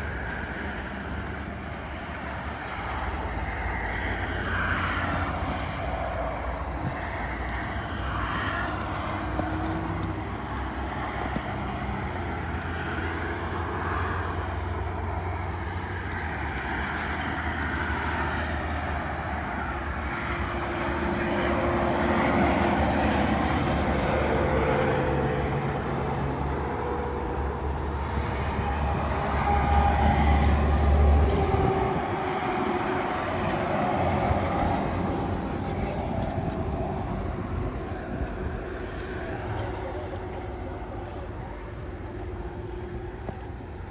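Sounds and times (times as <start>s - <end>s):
low engine-like drone: 0.0s - 43.9s.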